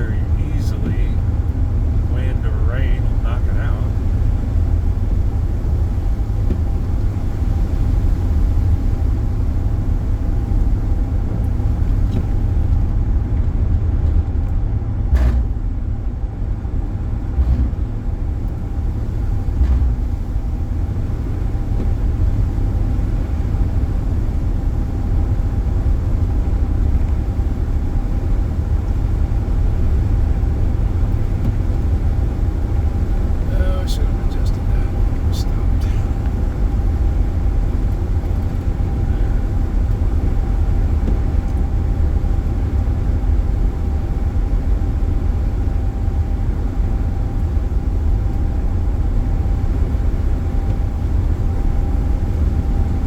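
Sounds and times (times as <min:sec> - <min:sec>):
faint steady hum: 0:00.0 - 0:13.6, 0:15.6 - 0:53.0
car driving rumble: 0:00.0 - 0:53.0.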